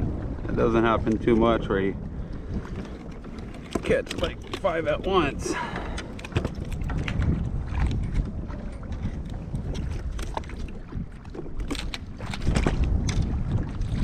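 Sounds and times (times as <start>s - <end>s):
water against kayak hull: 0.0s - 14.0s
wind buffeting microphone: 0.0s - 14.0s.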